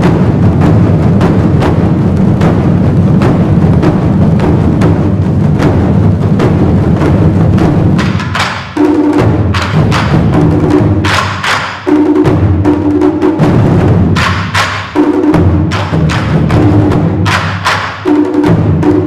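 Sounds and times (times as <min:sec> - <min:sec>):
drum ensemble drumming: 0:00.0 - 0:19.0.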